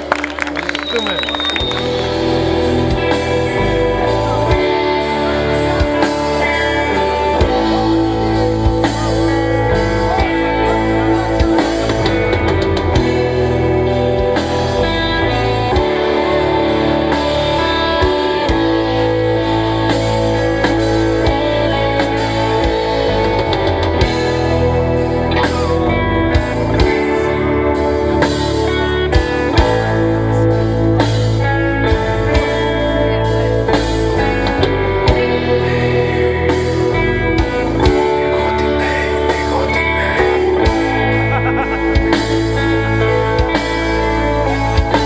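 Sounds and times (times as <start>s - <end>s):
drum kit: 0.0s - 45.0s
electric guitars: 0.0s - 45.0s.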